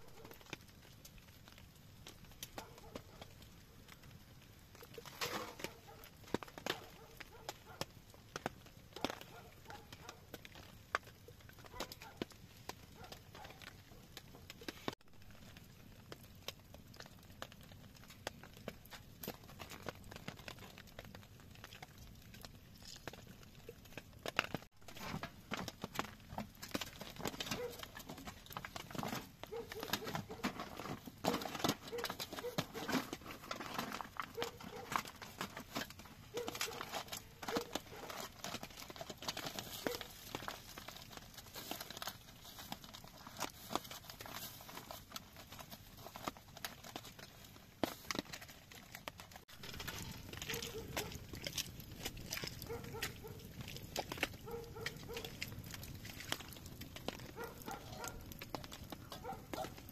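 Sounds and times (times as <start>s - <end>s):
crackling and rustling: 0.0s - 59.9s.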